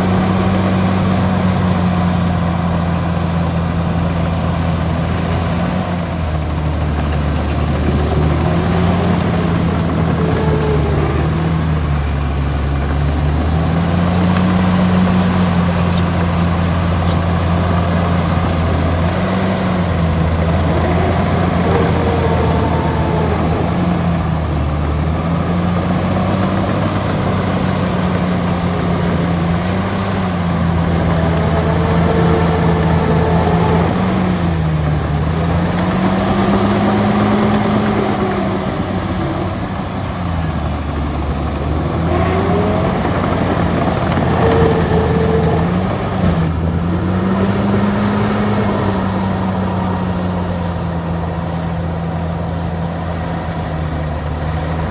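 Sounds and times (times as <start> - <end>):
bulldozer diesel engine working: 0.0 - 54.9.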